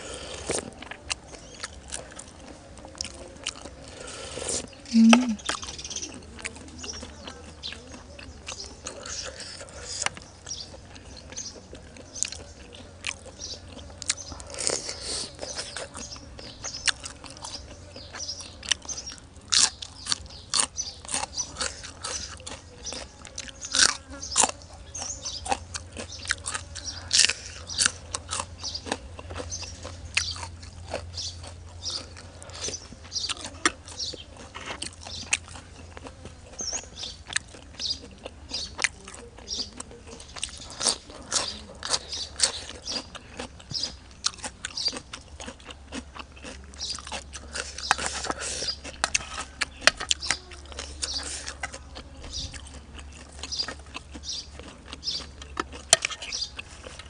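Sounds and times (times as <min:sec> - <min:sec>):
crunchy bites: 0:00.0 - 0:57.0
wet chewing and lip smacking: 0:00.0 - 0:57.0.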